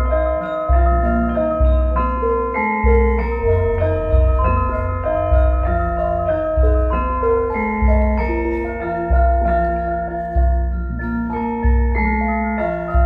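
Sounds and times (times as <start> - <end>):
deep bass note: 0.0 - 12.0
struck metal keyed instruments melody: 0.0 - 13.0.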